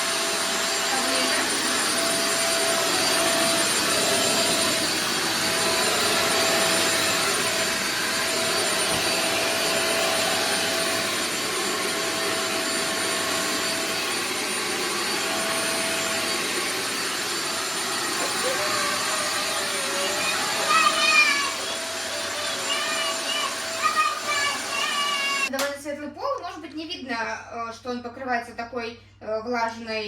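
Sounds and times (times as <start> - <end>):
vacuum and steam mop running: 0.0 - 25.5.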